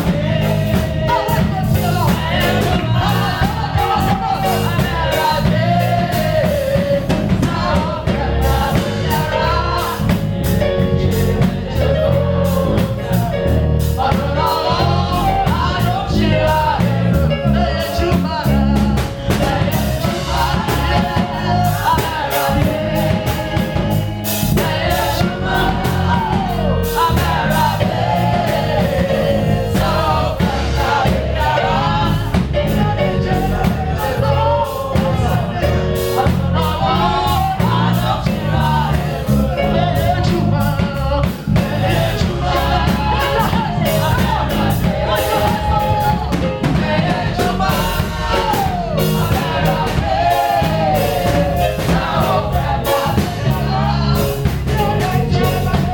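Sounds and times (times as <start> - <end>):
bass: 0.0 - 55.9
congregation singing: 0.0 - 55.9
lead voice singing: 0.0 - 55.9
steady drum beat: 0.0 - 55.9.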